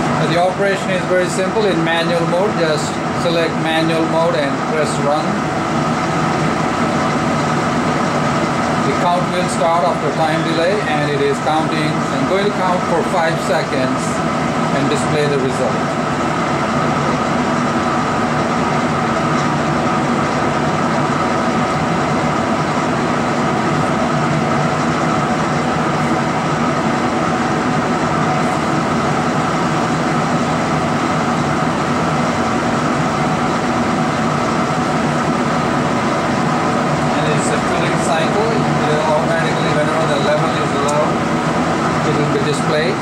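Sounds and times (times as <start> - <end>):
mechanical hum with steady tones: 0.0 - 43.0.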